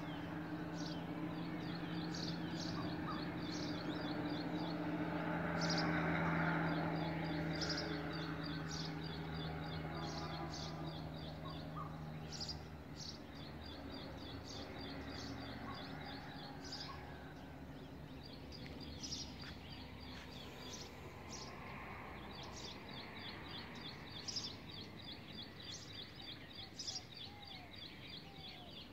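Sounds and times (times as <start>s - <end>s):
birds twittering: 0.0s - 28.9s.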